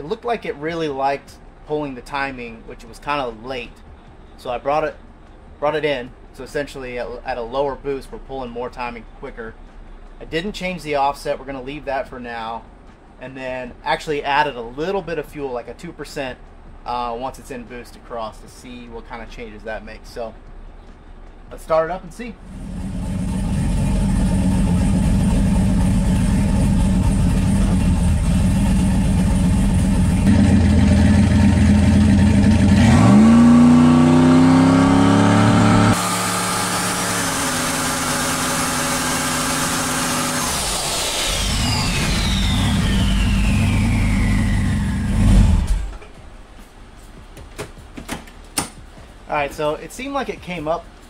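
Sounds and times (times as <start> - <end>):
car engine idling and revving: 0.0 - 8.2, 8.9 - 15.4, 20.2 - 49.3
high turbo whine: 0.0 - 47.3.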